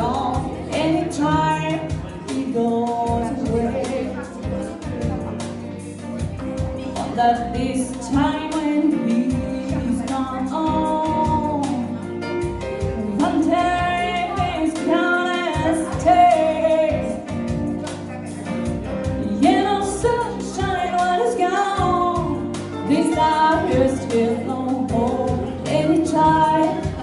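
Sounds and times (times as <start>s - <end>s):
woman singing jazz into microphone: 0.0s - 18.0s, 18.7s - 27.0s
electric keyboard: 0.0s - 27.0s.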